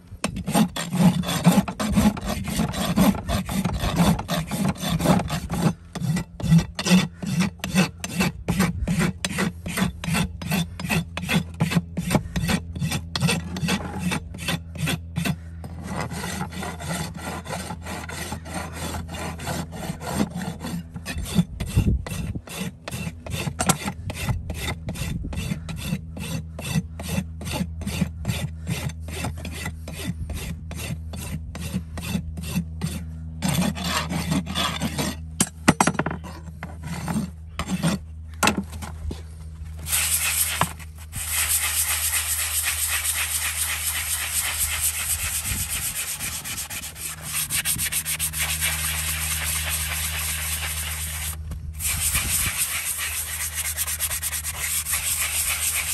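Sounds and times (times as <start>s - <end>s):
rasp filing hoof: 0.2s - 55.9s.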